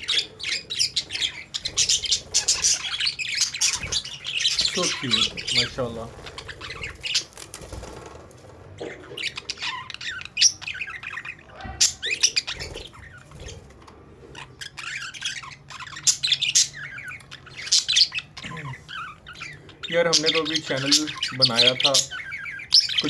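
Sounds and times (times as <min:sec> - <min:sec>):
budgerigars chirping and squawking: 0:00.0 - 0:23.0.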